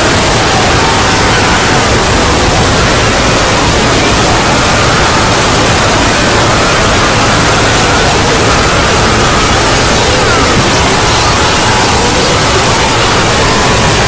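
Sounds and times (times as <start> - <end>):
harsh distorted noise: 0.0 - 14.0.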